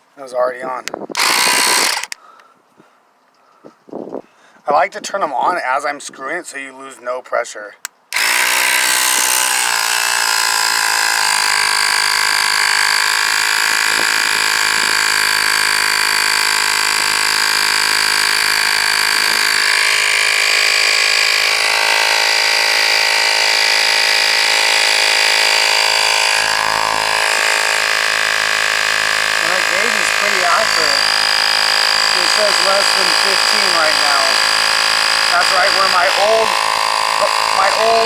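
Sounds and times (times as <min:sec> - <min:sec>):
air compressor buzzing: 0:01.2 - 0:02.2, 0:08.1 - 0:38.0.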